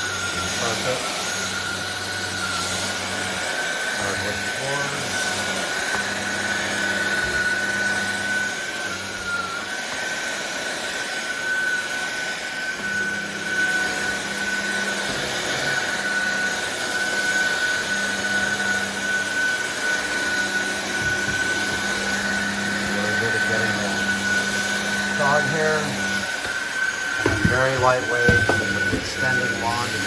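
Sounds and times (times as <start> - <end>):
vacuum cleaner motor whine: 0.0 - 30.0.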